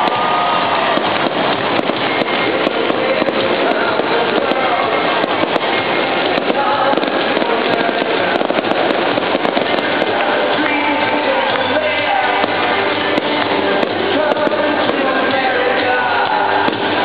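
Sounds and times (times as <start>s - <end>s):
continuous rumble: 0.0s - 17.0s
fireworks crackling: 0.0s - 17.0s
music playing: 0.0s - 17.0s.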